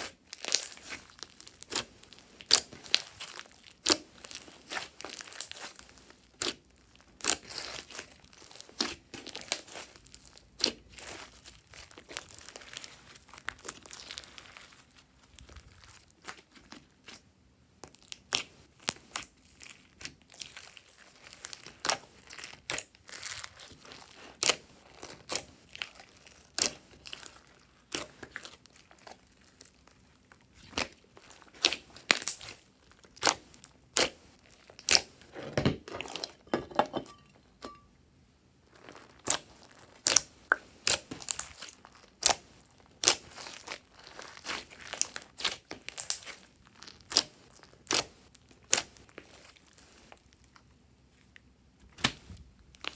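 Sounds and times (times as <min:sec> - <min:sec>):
hands squishing slime: 0:00.0 - 0:35.2, 0:38.7 - 0:50.5.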